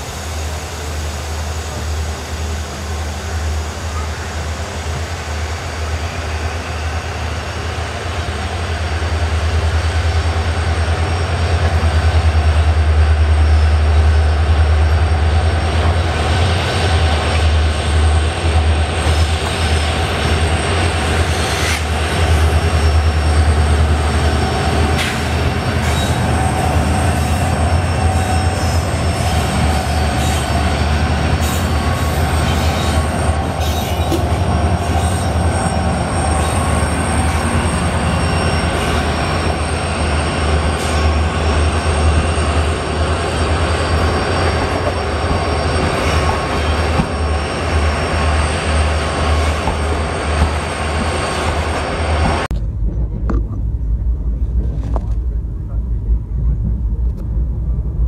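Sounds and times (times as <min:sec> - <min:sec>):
locomotive engine rumble: 0:00.0 - 0:58.0
train wheels rolling on rails: 0:00.0 - 0:58.0.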